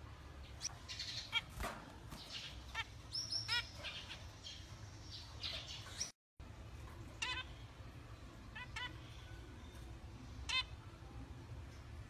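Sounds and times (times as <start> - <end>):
low steady hum: 0.0 - 12.0
finches chirping and singing: 0.4 - 6.1, 7.2 - 11.3.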